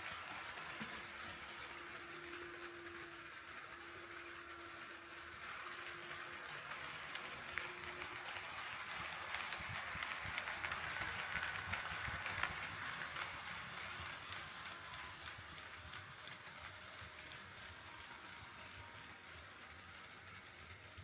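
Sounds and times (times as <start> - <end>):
model train rolling noise: 0.0 - 21.0
model train wheels clicking: 0.0 - 21.0.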